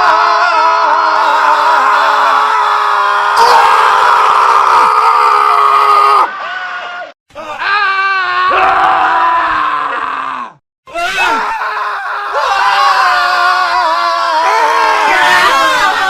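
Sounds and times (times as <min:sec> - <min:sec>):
men screaming: 0:00.0 - 0:16.0.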